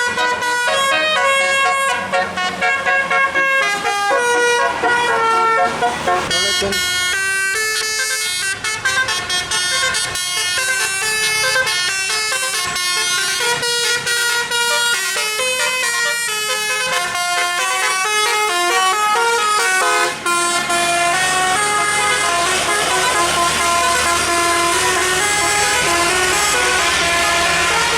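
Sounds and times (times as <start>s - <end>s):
musical air horn tune: 0.0s - 27.9s.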